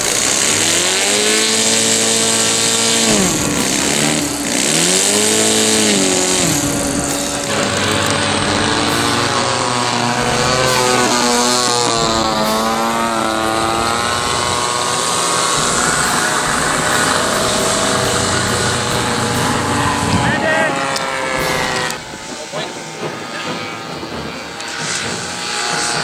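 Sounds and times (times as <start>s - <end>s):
model plane engine revving: 0.0s - 26.0s
model plane engine wavering pitch: 0.0s - 26.0s.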